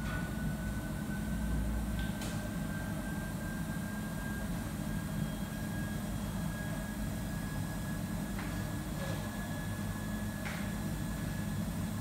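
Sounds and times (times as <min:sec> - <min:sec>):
kitchen fans low hum: 0:00.0 - 0:12.0.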